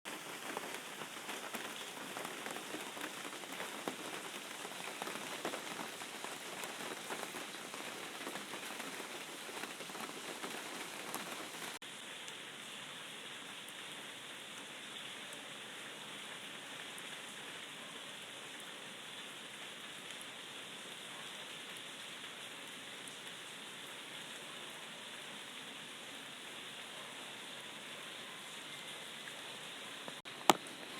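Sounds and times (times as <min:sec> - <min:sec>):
rain pattering: 0:00.1 - 0:26.8, 0:28.7 - 0:30.9.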